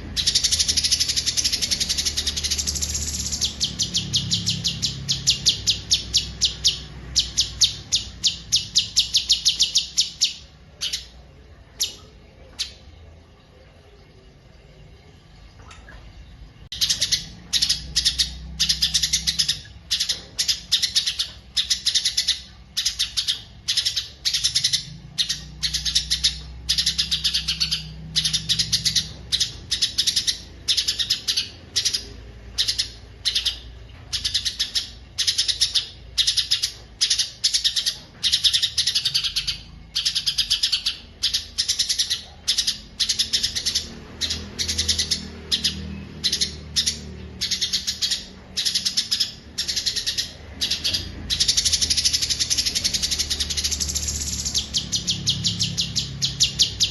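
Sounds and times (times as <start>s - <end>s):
songbird chattering song: 0.0s - 12.9s, 16.7s - 56.9s.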